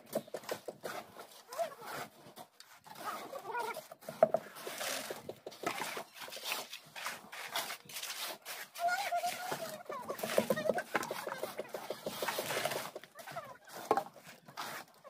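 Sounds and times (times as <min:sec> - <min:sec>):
tools scraping wet concrete: 0:00.0 - 0:15.0.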